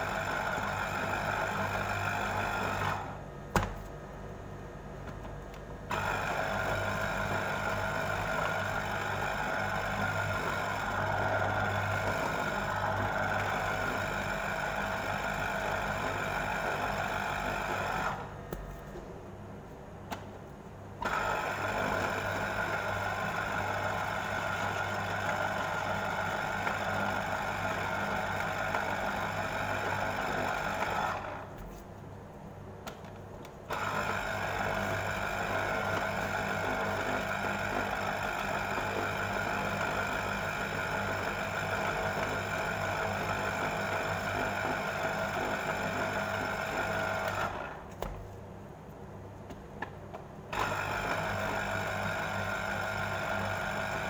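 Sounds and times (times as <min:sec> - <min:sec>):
electric juicer motor whirring: 0:00.0 - 0:03.3, 0:05.8 - 0:18.5, 0:21.0 - 0:31.6, 0:33.7 - 0:47.9, 0:50.5 - 0:54.0.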